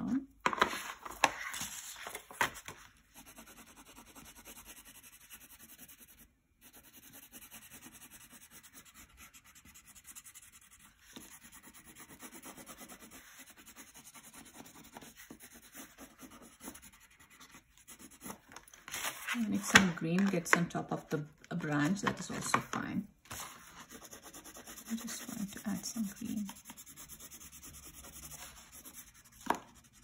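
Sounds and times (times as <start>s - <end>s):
crayon scratching on paper: 3.1s - 20.7s, 23.3s - 30.0s.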